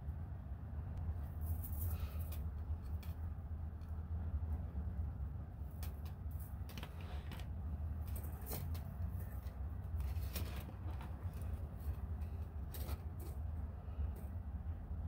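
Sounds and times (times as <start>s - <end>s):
steady low hum: 0.0s - 15.0s
wire clicking and scraping: 1.2s - 4.7s, 5.6s - 14.4s.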